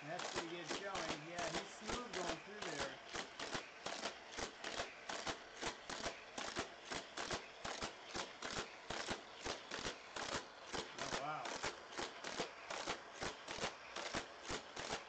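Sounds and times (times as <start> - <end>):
booster wheels spinning: 0.0 - 15.0
toy car whooshing round track: 0.0 - 15.0.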